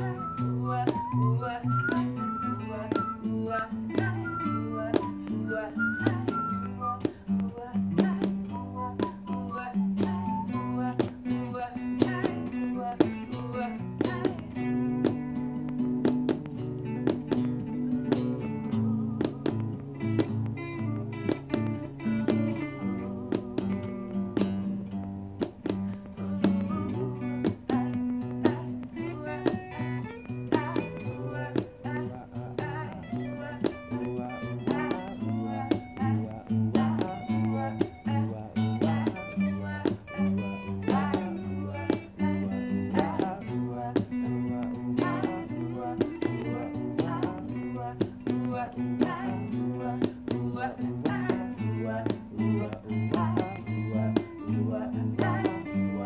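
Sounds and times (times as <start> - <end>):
electric guitar playing: 0.0 - 56.0.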